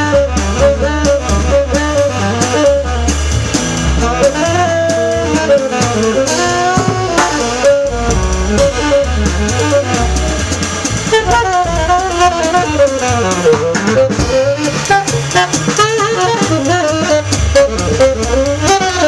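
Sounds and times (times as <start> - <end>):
drum kit with sticks: 0.0 - 19.0
tenor saxophone: 0.0 - 19.0
upright bass: 0.0 - 19.0.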